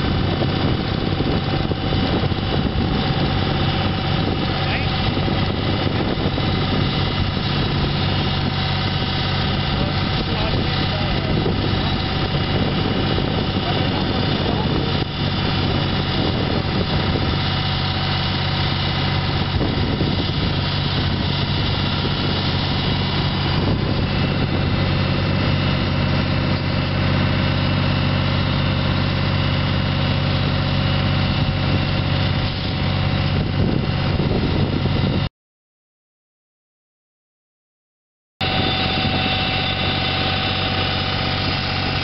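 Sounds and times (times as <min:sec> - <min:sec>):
tractor engine running: 0:00.0 - 0:35.3, 0:38.4 - 0:42.0.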